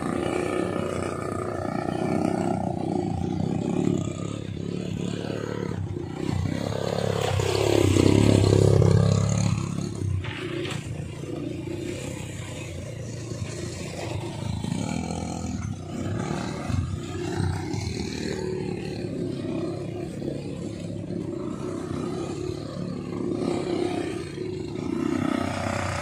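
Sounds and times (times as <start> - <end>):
quad bike engines: 0.0 - 26.0.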